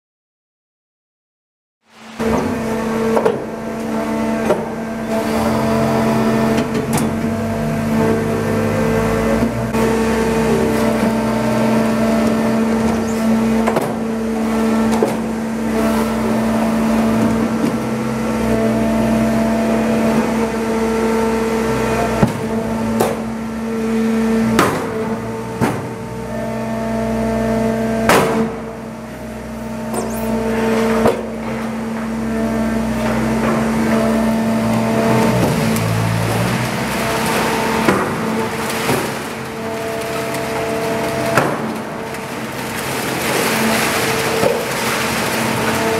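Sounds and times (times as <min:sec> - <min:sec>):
hydraulic unit humming: 0:01.9 - 0:45.9.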